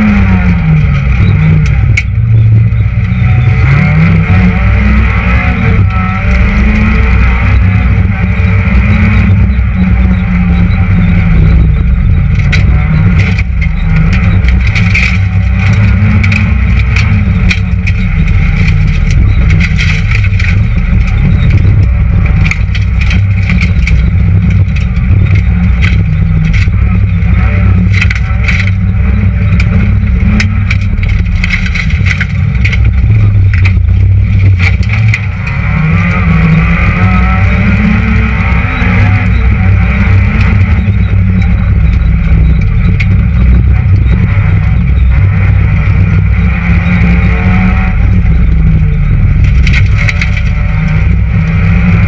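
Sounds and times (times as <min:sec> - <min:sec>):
rally car engine revving: 0:00.0 - 0:52.0
sharp clicks and knocks: 0:00.0 - 0:52.0.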